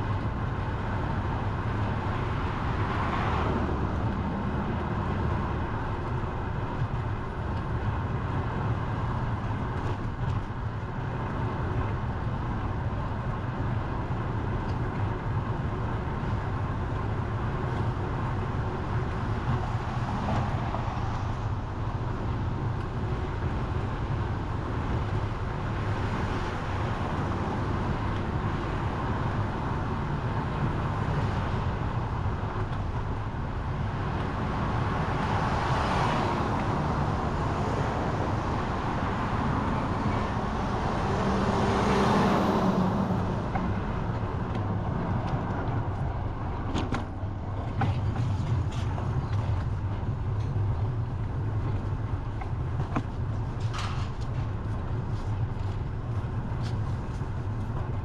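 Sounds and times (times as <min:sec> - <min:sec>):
road traffic noise: 0:00.0 - 0:58.0
vehicles passing: 0:00.0 - 0:58.0.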